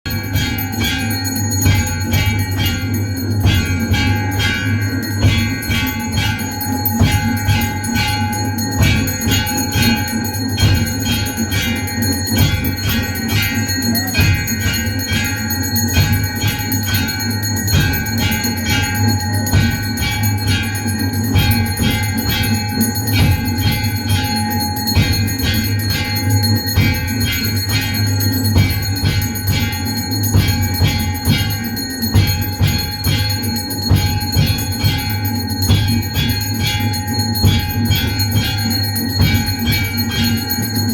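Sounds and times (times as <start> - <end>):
temple bells clanging: 0.0 - 40.9.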